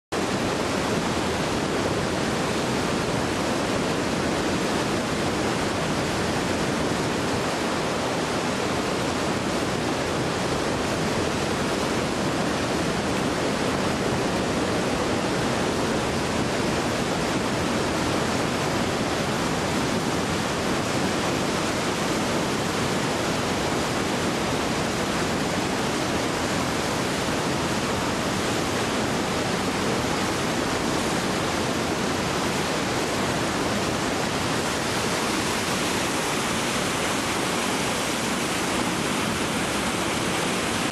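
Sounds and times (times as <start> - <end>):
whitewater rapids rushing: 0.2 - 40.9.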